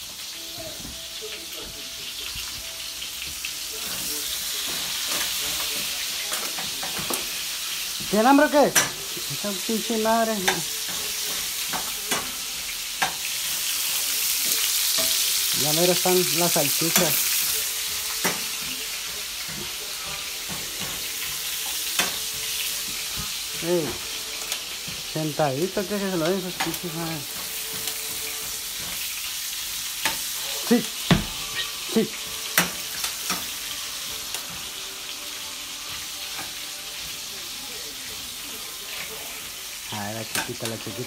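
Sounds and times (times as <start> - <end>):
sausages sizzling in a frying pan: 0.0 - 41.0.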